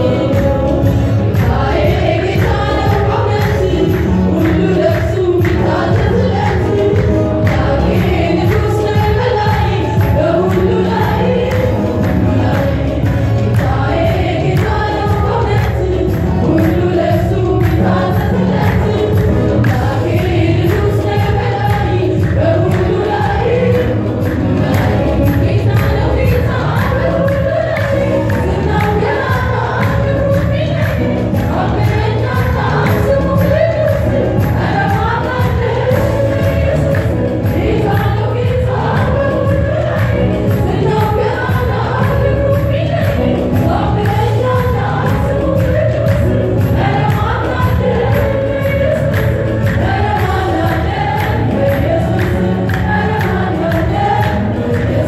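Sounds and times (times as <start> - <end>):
women's choir singing gospel: 0.0 - 55.0
hand-clapping: 1.4 - 55.0.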